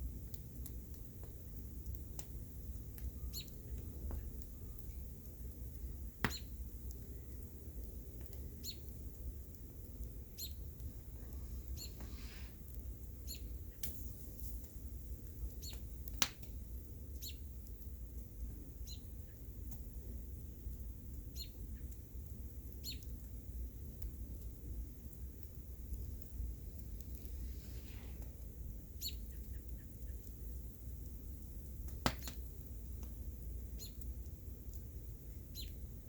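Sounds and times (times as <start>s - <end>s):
bonfire crackling: 0.0s - 36.0s.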